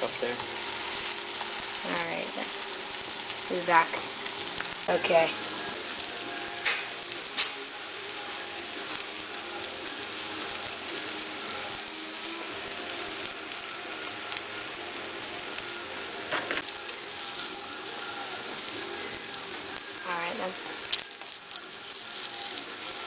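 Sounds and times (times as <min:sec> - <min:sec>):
patties sizzling in oil: 0:00.0 - 0:23.0.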